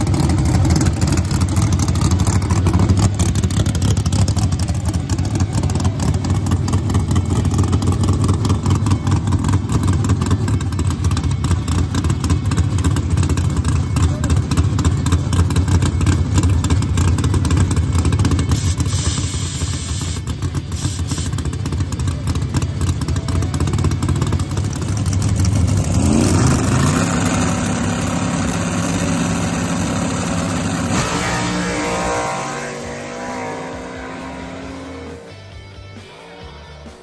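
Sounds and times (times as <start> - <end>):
drag car engine revving: 0.0 - 35.6.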